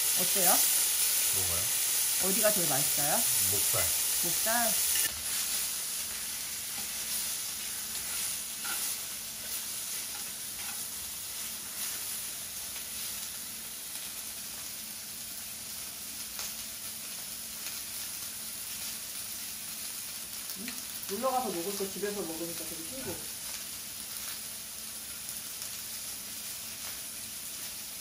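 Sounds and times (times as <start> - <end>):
meat sizzling in a skillet: 0.0 - 28.0.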